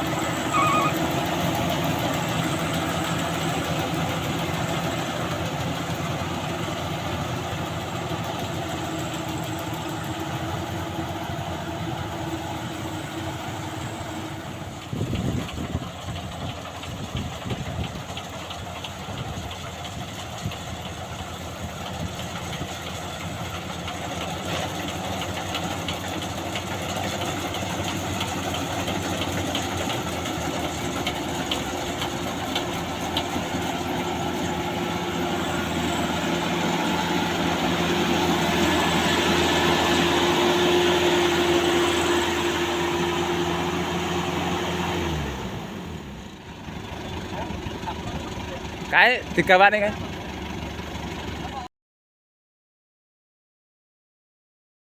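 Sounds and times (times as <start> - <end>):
combine harvester engine running: 0.0 - 51.7.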